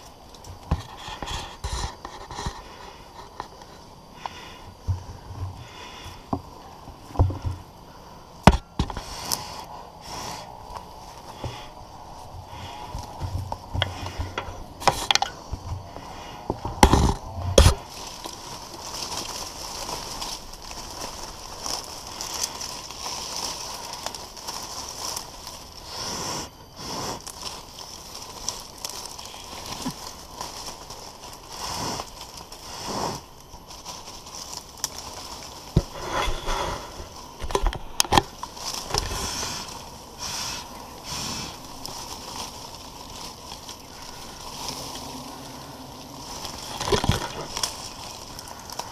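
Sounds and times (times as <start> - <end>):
branches rustling: 0.0 - 48.9
steady high hiss: 0.0 - 48.9.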